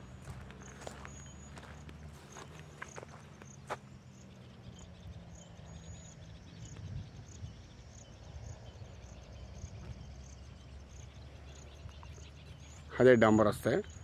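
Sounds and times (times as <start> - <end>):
faint high chirp: 0.0 - 14.0.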